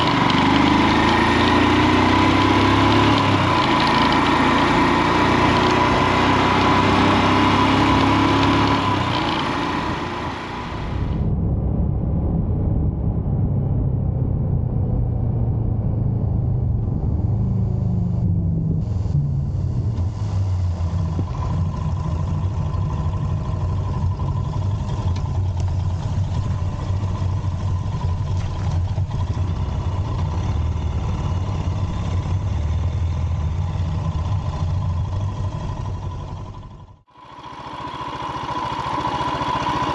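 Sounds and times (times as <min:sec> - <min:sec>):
motorcycle engine running: 0:00.0 - 0:11.4, 0:16.2 - 0:39.9
wind and road noise: 0:00.0 - 0:39.9.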